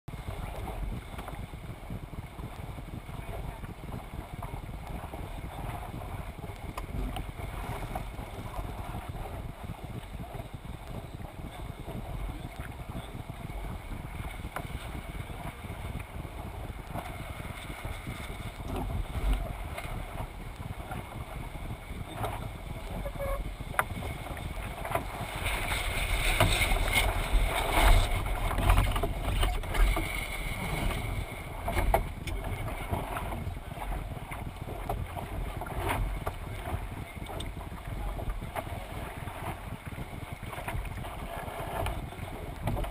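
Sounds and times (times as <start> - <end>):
water rushing along hull: 0.1 - 42.9
wind on microphone: 0.1 - 42.9.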